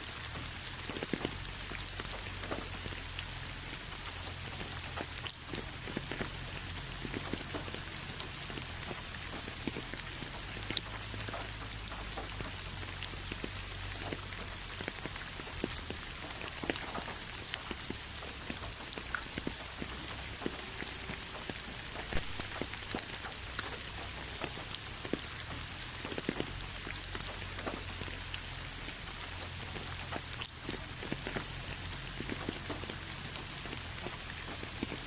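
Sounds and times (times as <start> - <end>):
rain on a hard surface: 0.0 - 35.0.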